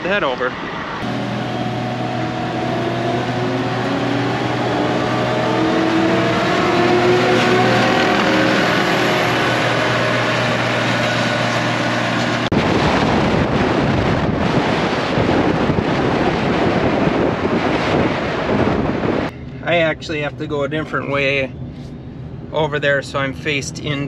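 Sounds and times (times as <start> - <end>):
engine and wind rush: 0.0 - 24.0
diesel truck engine running: 1.0 - 20.6.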